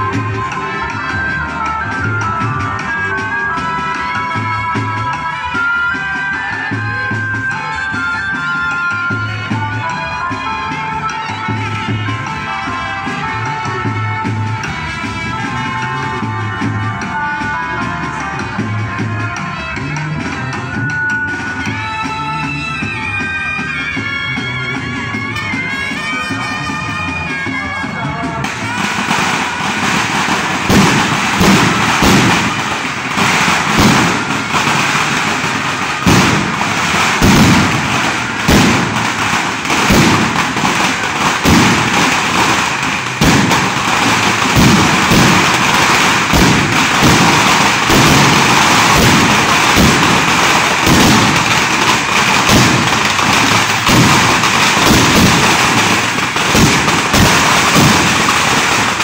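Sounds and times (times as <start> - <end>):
firecrackers banging: 0.0 - 59.0.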